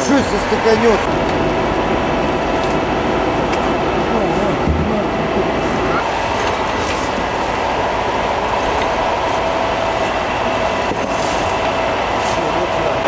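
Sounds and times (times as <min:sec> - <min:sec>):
machine hiss and rumble: 0:00.0 - 0:13.0.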